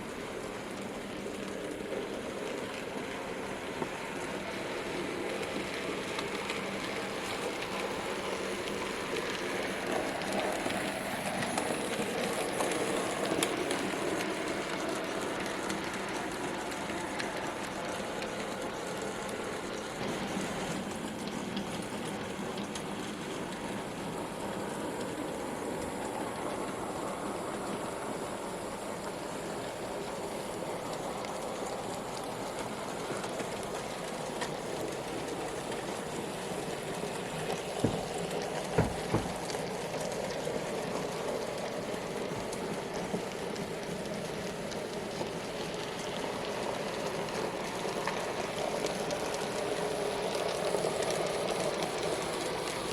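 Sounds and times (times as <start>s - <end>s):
model train motors whirring: 0.0s - 52.9s.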